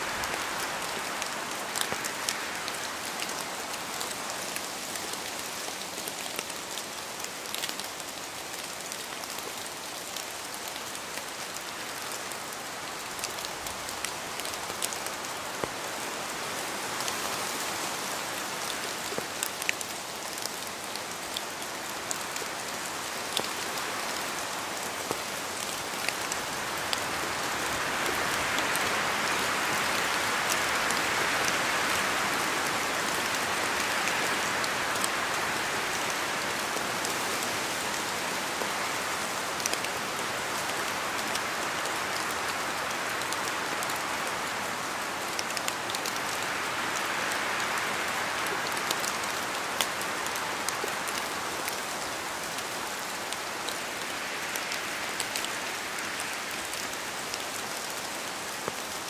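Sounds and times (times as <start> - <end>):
raindrops dripping on surface: 0.0 - 59.0
steady rain falling: 0.0 - 59.0.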